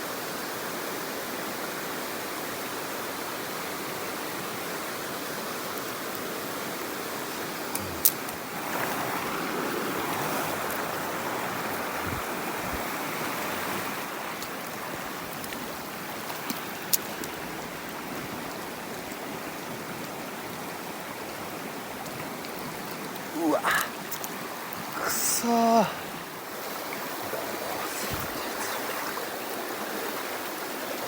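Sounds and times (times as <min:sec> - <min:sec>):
stream water rushing: 0:00.0 - 0:31.0.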